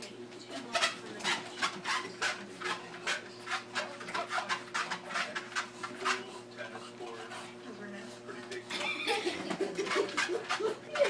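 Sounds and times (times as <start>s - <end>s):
treadmill humming: 0.0s - 11.0s
dog rasping breaths: 0.7s - 8.2s, 9.5s - 11.0s.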